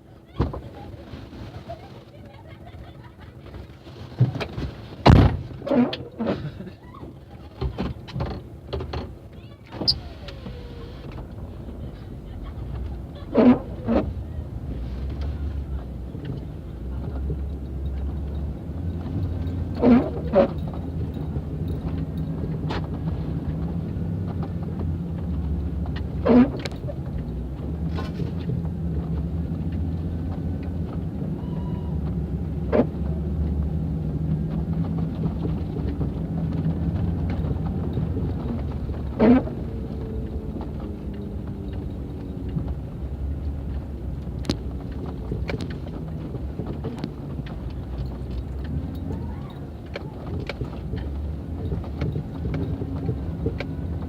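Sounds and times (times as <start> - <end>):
motor vehicle running: 0.0 - 54.0.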